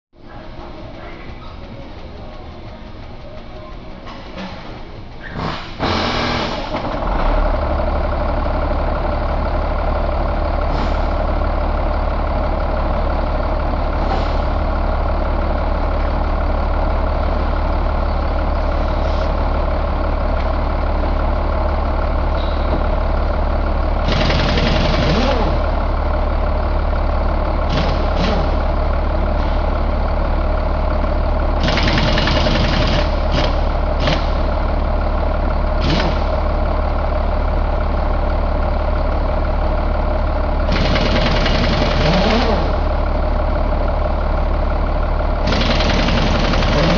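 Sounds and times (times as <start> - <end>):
diesel engine idling: 0.2 - 46.9.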